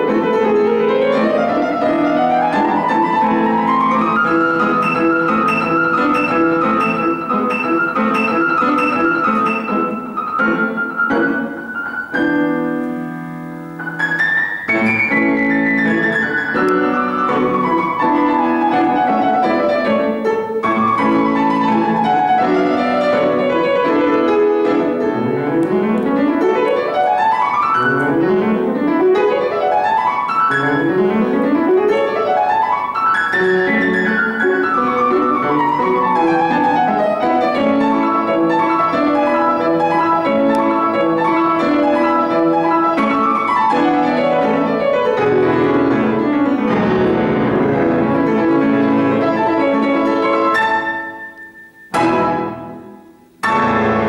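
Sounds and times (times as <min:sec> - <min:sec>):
solo piano classical music: 0:00.0 - 0:54.0.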